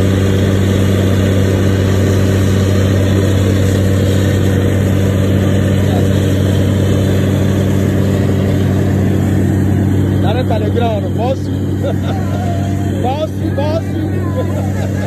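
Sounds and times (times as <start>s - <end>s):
drilling rig engine drone: 0.0s - 15.0s.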